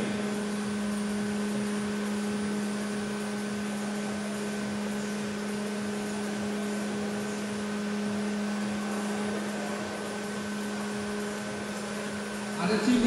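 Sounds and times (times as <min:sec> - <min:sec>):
electric fans rushing air: 0:00.0 - 0:13.0
fan hum: 0:00.0 - 0:13.0.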